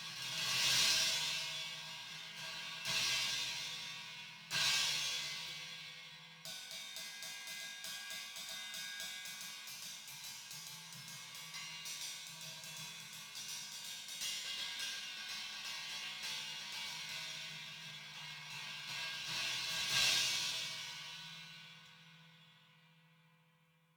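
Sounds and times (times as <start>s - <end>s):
cymbal played in fast strokes: 0.0s - 22.6s.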